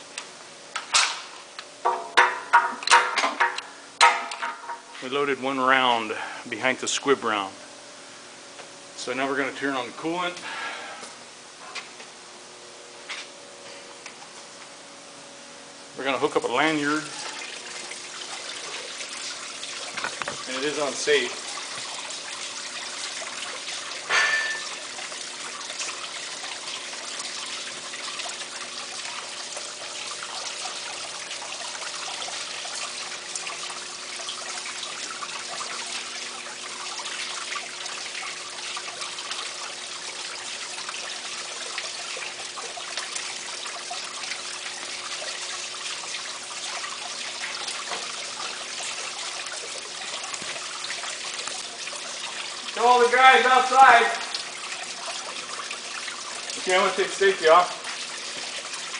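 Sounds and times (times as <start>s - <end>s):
water running with trickling hiss: 0.0s - 58.9s.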